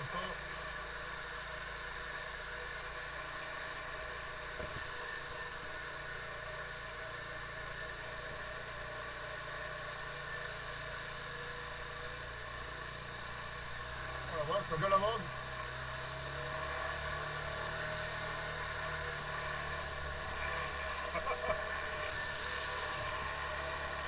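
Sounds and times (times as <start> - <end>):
quad bike engine running: 0.0 - 24.0
steady hiss: 0.0 - 24.0.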